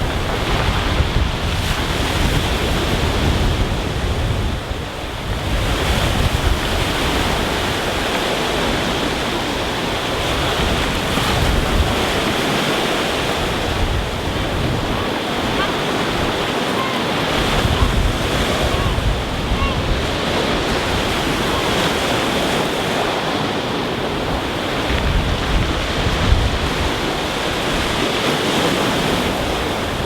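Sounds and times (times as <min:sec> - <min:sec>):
waves on stony beach: 0:00.0 - 0:30.0
wind rumbling on microphone: 0:00.0 - 0:30.0.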